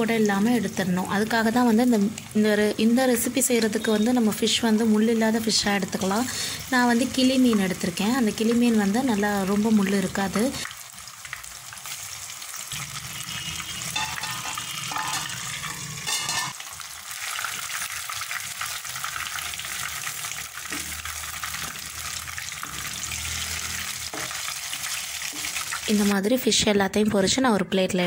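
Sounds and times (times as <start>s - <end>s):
fish frying in hot oil: 0.0s - 26.2s.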